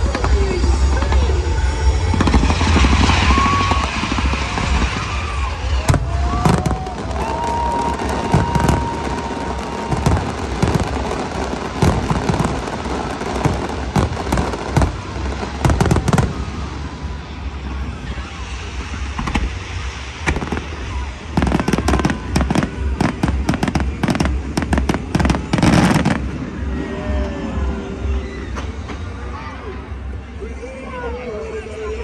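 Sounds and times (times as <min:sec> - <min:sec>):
firework whistling: 0:00.0 - 0:30.2
fireworks bangs and crackles: 0:00.0 - 0:30.2
low rumble: 0:00.0 - 0:30.4.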